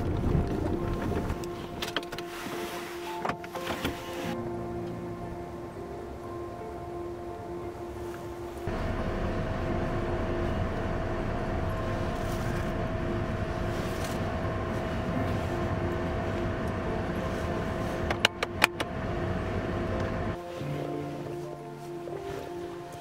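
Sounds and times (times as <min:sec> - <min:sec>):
car engine and heater fan hum: 0:00.0 - 0:23.0.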